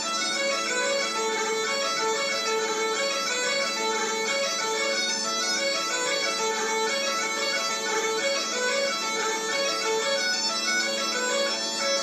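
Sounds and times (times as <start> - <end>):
bagpipe chanter melody: 0.0 - 12.0
bagpipe drone: 0.0 - 12.0.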